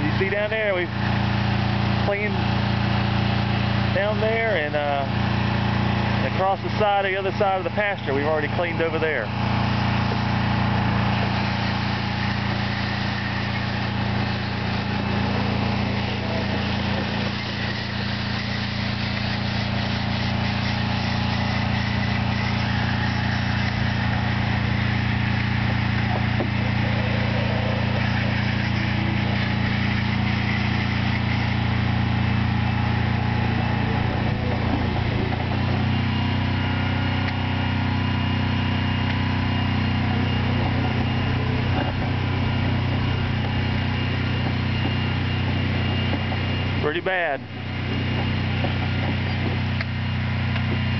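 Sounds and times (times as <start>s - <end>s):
pressure washer engine running: 0.0s - 50.9s.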